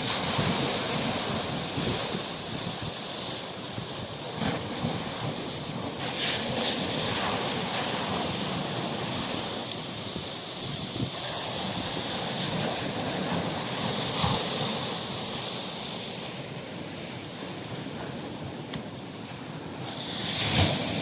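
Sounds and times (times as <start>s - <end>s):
wind buffeting microphone: 0.0s - 18.7s
sea waves washing: 0.0s - 21.0s.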